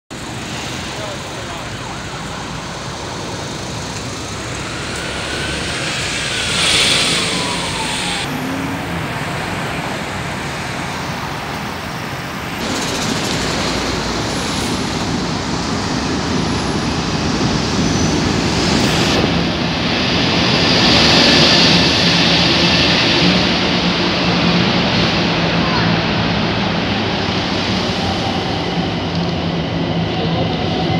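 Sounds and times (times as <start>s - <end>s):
city road traffic: 0.1s - 30.9s.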